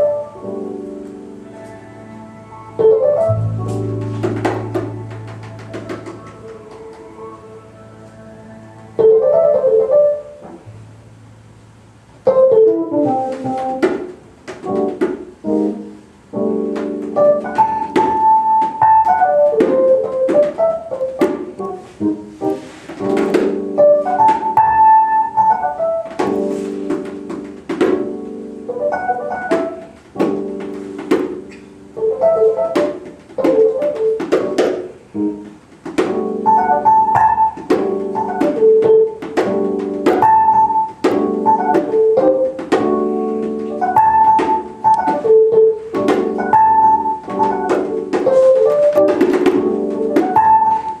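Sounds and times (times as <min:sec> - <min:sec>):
electric keyboard playing jazz chords: 0:00.0 - 0:51.0.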